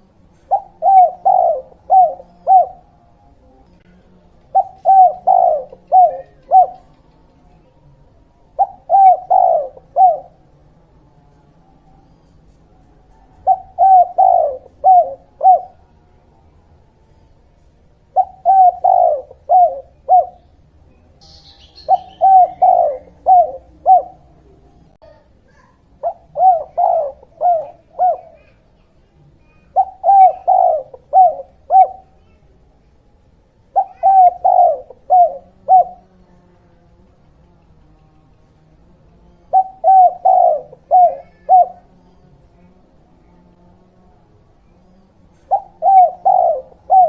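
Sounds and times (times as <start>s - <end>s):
dove cooing: 0.0s - 10.6s, 11.7s - 20.6s, 21.2s - 32.5s, 33.4s - 36.2s, 37.0s - 43.3s, 44.6s - 47.0s.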